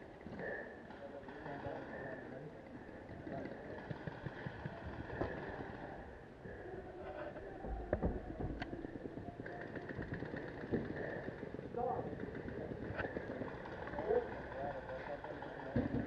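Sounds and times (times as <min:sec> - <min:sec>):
faint distant voices: 0:00.0 - 0:16.0.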